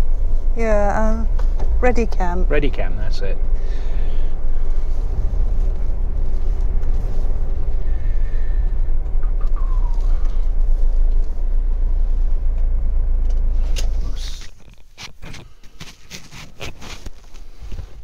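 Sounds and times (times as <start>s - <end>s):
motorhome rumbling: 0.0s - 18.0s.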